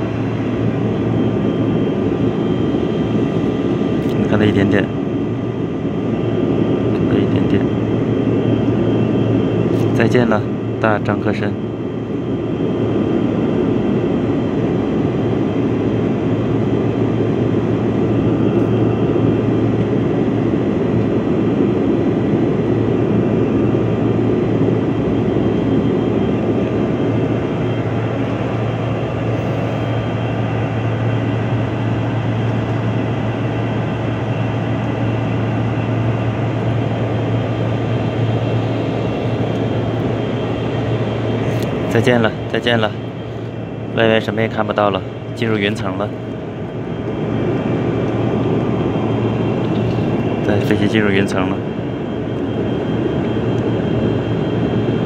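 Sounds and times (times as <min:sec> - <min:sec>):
airliner engines droning: 0:00.0 - 0:55.0
constant low hum: 0:00.0 - 0:55.0
faint steady whines: 0:00.0 - 0:55.0.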